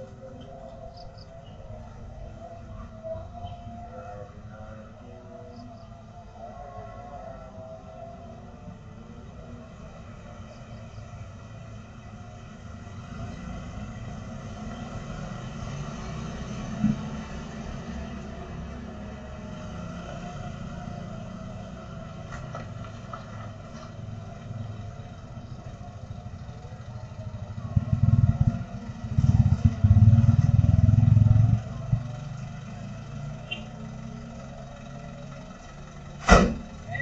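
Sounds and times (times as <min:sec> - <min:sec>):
low engine rumble: 0:00.0 - 0:37.0
vehicles passing close by: 0:00.0 - 0:37.0.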